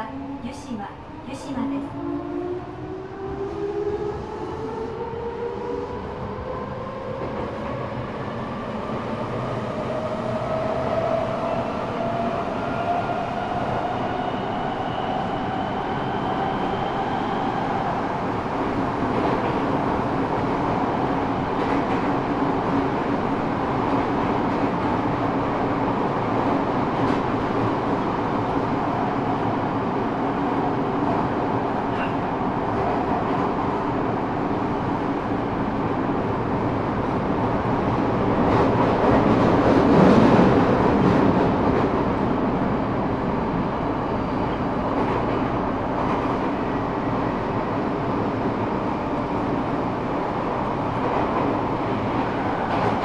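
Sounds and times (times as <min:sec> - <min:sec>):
rumble of train wheels and motors: 0:00.0 - 0:53.0.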